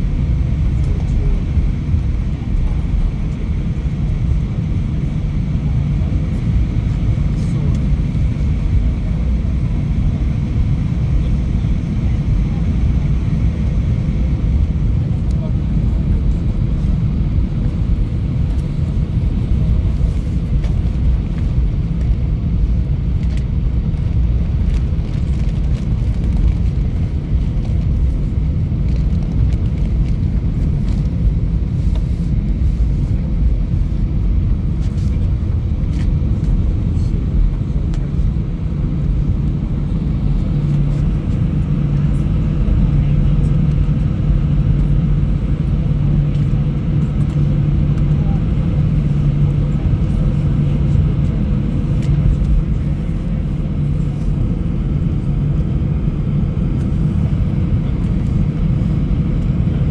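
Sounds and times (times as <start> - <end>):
jet engines idling rumble: 0.0 - 59.9
low hum: 0.0 - 59.9.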